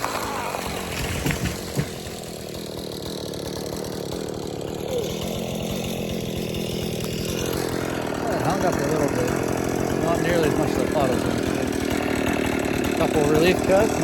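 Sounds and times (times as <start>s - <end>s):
chainsaw idling: 0.0s - 14.0s.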